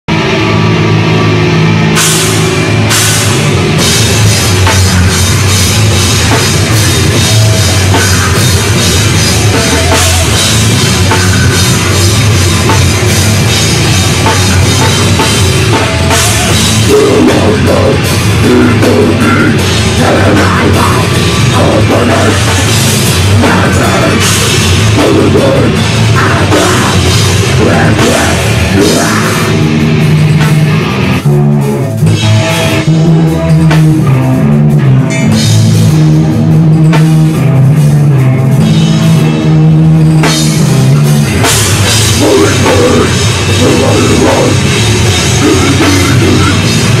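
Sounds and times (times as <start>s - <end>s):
distorted electric guitars: 0.0s - 47.0s
drum kit with cymbals: 0.1s - 47.0s.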